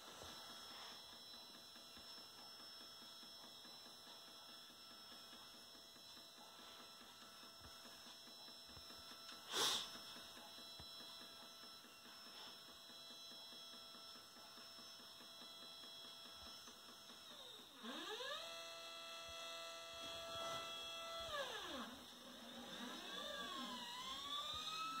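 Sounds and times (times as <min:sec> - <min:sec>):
stepper motor whine: 0:00.0 - 0:25.0
wavering motor whine: 0:00.0 - 0:25.0.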